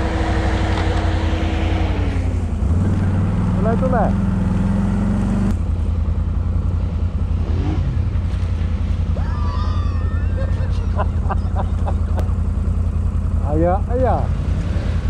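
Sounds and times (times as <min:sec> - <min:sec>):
tracked vehicle engine droning: 0:00.0 - 0:15.0.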